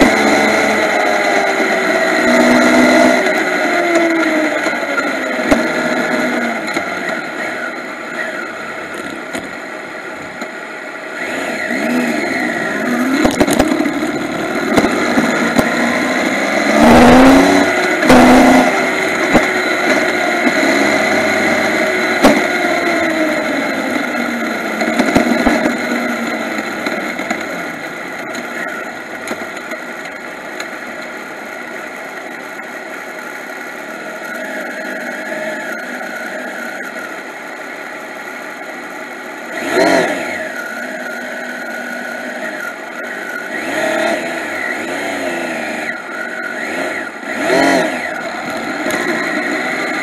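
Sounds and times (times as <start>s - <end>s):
motorcycle engine running: 0.0s - 50.0s
road noise: 0.0s - 50.0s.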